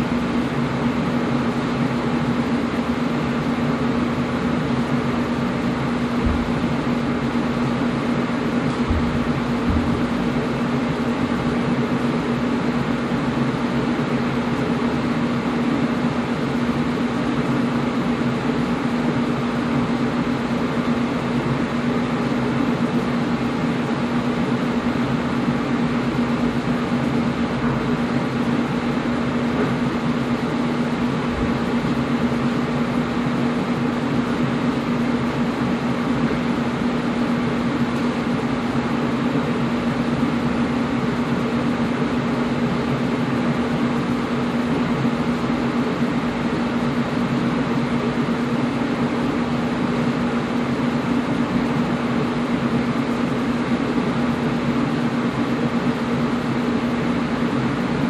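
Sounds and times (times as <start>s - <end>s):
air conditioner fan whooshing: 0.0s - 58.0s
constant low hum: 0.0s - 58.0s.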